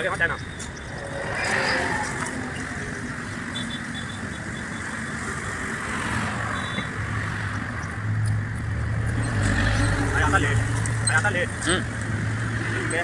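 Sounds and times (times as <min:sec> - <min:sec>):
traffic noise: 0:00.0 - 0:13.0
vehicle engine humming: 0:00.0 - 0:13.0.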